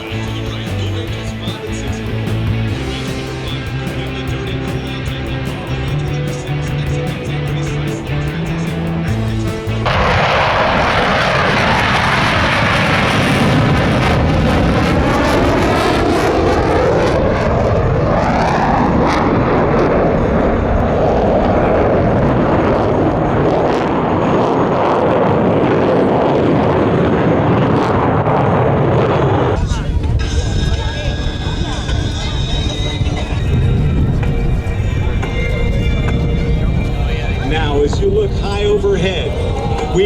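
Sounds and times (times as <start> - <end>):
airplane flying low overhead: 0.0 - 40.0.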